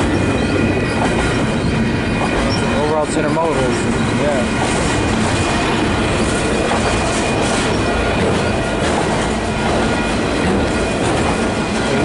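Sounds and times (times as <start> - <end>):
freight train rolling past: 0.0 - 12.0
wheels clacking over rail joints: 0.0 - 12.0.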